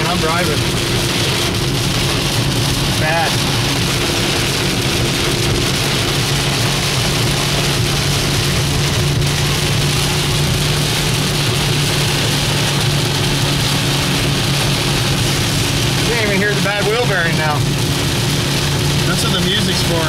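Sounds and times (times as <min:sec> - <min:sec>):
heavy rain pounding on car: 0:00.0 - 0:20.0
low road drone: 0:00.0 - 0:20.0.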